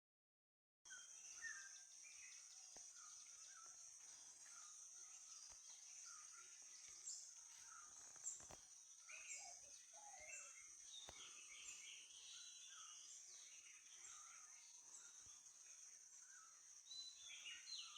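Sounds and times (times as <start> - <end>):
bird chirps: 0.9 - 17.9.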